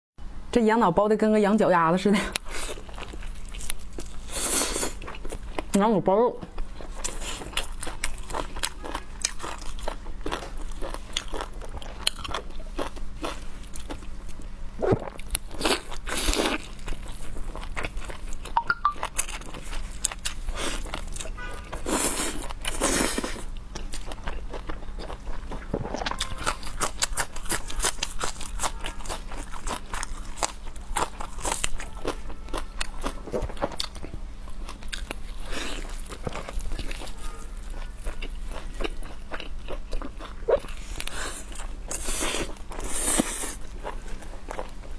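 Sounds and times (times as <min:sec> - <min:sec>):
person chewing crunchy food: 0:02.3 - 0:05.8, 0:06.6 - 0:44.9.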